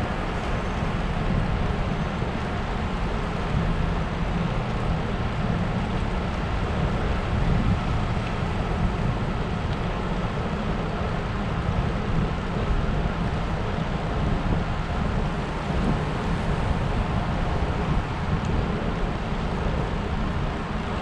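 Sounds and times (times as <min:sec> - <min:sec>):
wind rush on microphone: 0:00.0 - 0:21.0.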